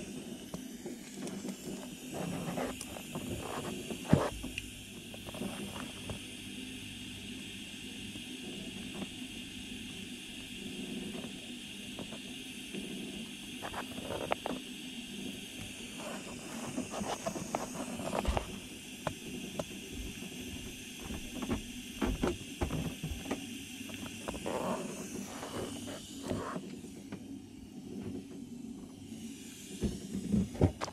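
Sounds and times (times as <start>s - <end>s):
steady hiss: 0.0s - 30.9s.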